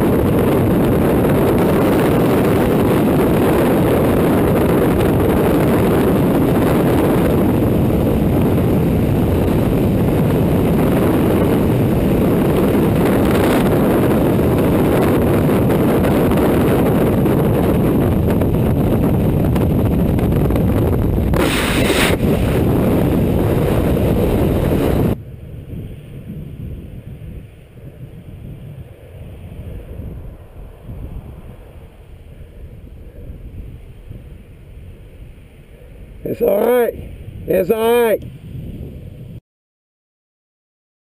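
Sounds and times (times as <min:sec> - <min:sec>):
freefall wind buffeting microphone: 0:00.0 - 0:39.4.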